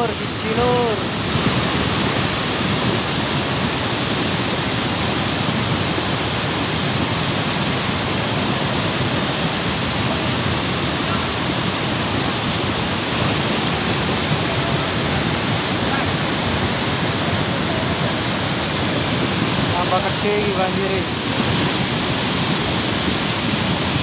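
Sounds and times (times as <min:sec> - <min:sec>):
mudflow rushing: 0:00.0 - 0:24.0.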